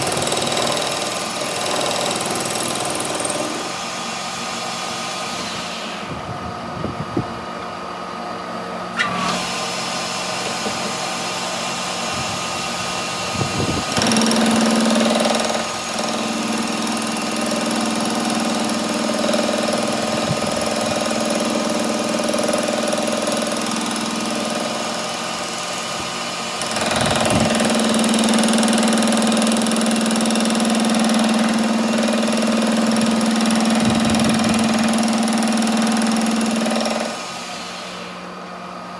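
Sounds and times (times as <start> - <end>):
workshop machine motor humming: 0.0 - 38.9.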